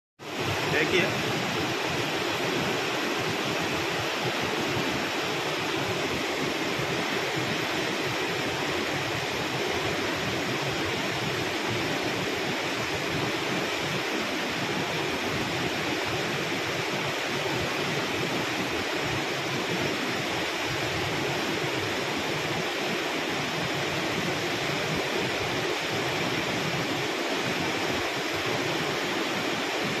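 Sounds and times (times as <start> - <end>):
floodwater rushing over rapids: 0.2 - 30.0.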